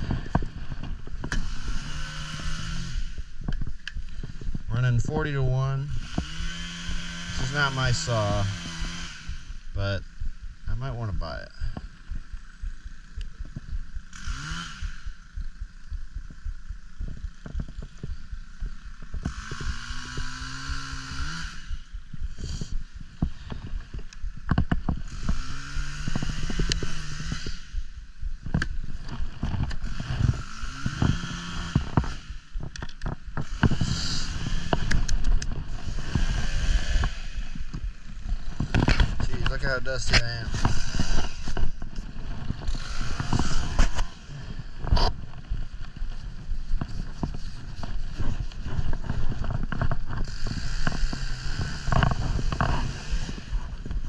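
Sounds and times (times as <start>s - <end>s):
chainsaw revving: 0.0s - 16.4s, 17.1s - 54.0s.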